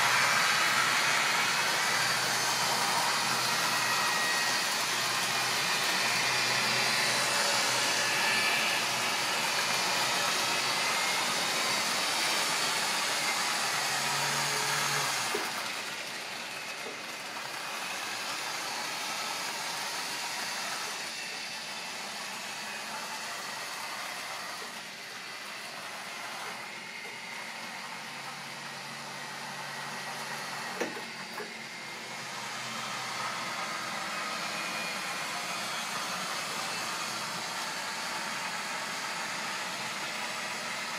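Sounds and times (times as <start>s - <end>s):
model train motors whirring: 0.0s - 40.9s.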